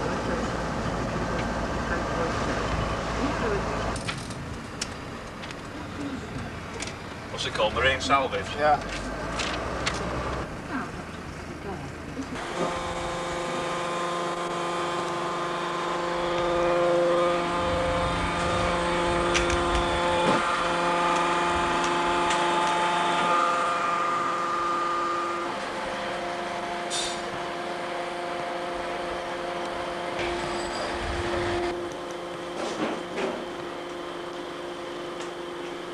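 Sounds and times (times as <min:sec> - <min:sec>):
motor humming steadily: 0:00.0 - 0:35.9.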